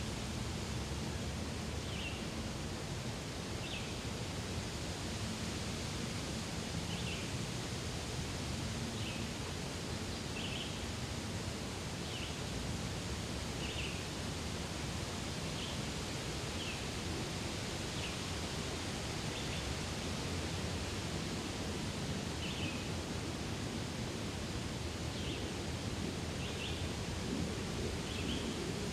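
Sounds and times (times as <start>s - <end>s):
wind through trees: 0.0s - 28.9s.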